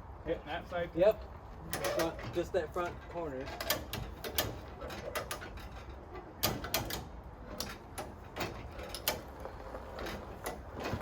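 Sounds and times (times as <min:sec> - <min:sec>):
sharp metallic clicks and knocks: 0:01.7 - 0:11.0.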